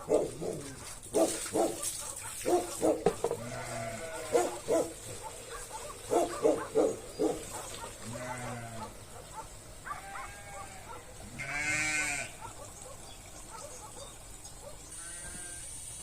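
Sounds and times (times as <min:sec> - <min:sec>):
farm animals calling: 0:00.0 - 0:16.0.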